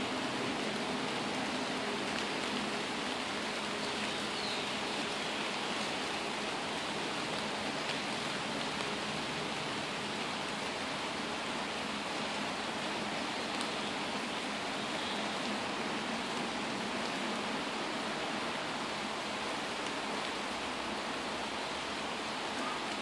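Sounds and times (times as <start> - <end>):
rain falling on leaves: 0.0 - 23.0.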